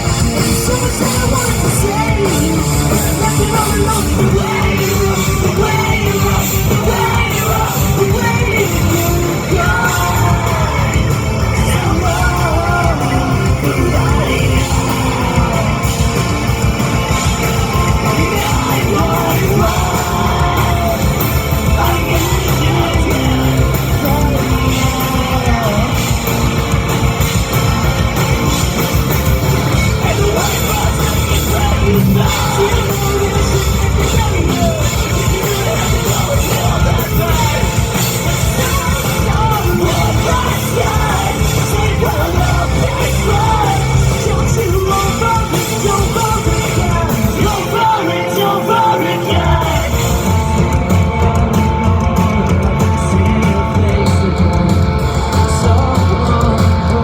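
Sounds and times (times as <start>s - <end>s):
distorted guitars: 0.0s - 57.0s
drums: 0.0s - 57.0s
vocalist singing and yelling: 0.0s - 57.0s.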